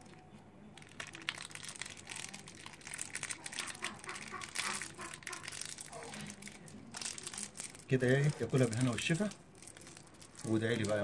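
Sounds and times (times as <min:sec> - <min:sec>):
foil wrapper crinkling: 0:00.8 - 0:11.0.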